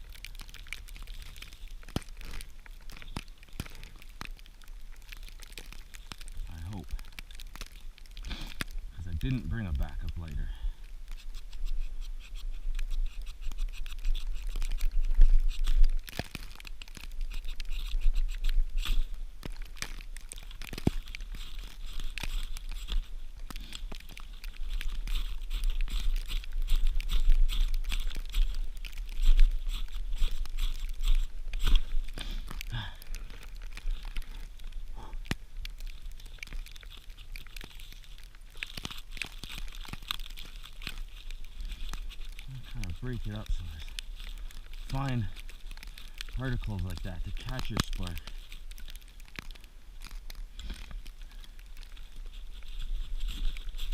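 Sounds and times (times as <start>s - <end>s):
hands crunching dry tinder: 0.0s - 53.9s.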